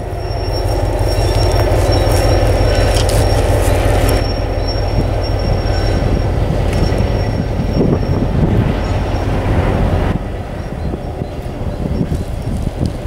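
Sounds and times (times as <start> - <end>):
high wheel squeal: 0.0 - 12.5
diesel locomotive engine drone: 0.0 - 13.0
wheels rumbling on track: 0.0 - 13.0.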